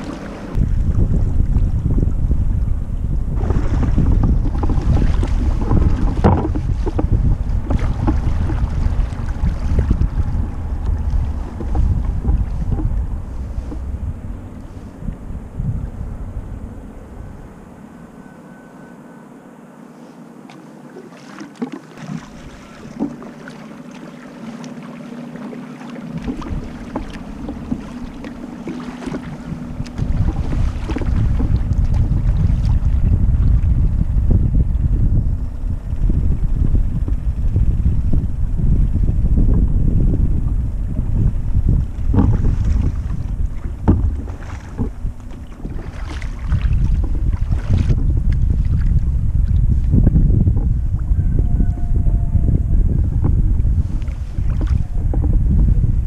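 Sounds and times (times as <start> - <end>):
water lapping against kayak hull: 0.0 - 17.8, 20.0 - 56.0
wind buffeting microphone: 0.0 - 18.5, 21.6 - 23.4, 26.0 - 56.0.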